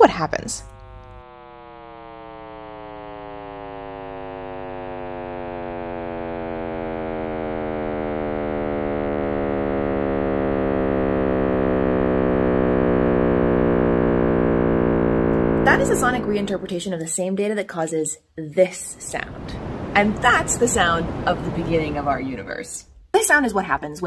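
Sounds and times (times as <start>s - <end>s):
deep drone of stacked tones: 0.0s - 16.9s, 19.0s - 23.0s.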